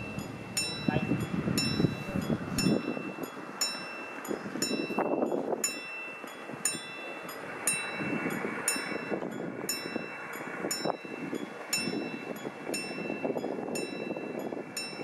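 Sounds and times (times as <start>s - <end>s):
level crossing bell ringing: 0.0s - 15.0s.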